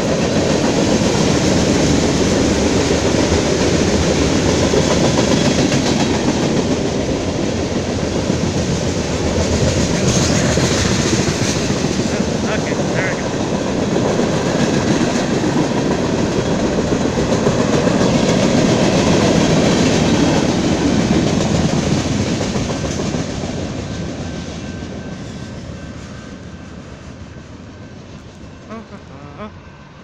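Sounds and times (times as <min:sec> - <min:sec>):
freight train rolling on rails: 0:00.0 - 0:30.0.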